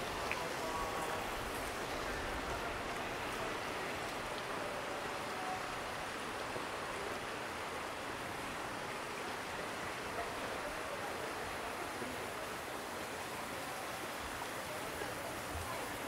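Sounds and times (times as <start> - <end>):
faint voices of passers-by: 0.0 - 16.0
outdoor ambient noise: 0.0 - 16.0.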